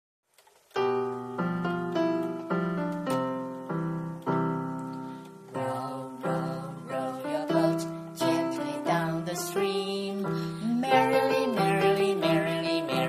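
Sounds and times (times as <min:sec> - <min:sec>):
piano chords on electronic keyboard: 0:00.4 - 0:13.0.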